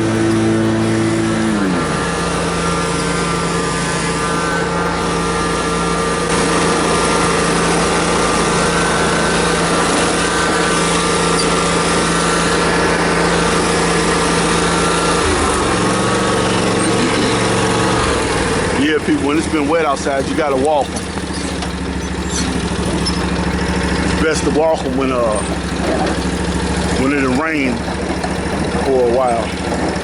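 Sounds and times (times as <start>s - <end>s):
lawn mower running: 0.0s - 30.0s.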